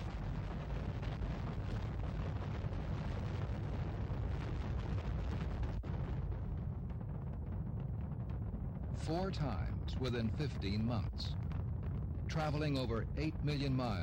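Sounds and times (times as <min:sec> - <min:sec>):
rocket launch rumble: 0:00.0 - 0:14.0.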